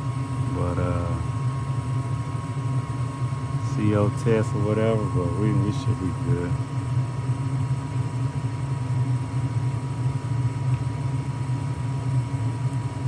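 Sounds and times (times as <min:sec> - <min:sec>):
gas furnace running: 0:00.0 - 0:13.0.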